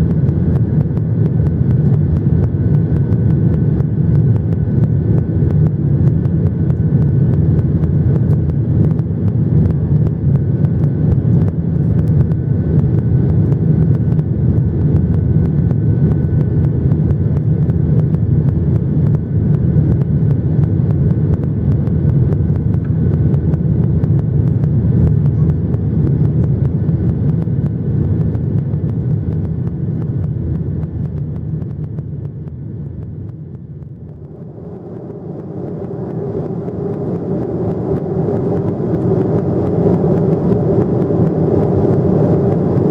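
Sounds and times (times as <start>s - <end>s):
airliner engines rumbling: 0.0s - 42.9s
faint steady whine: 0.0s - 42.9s.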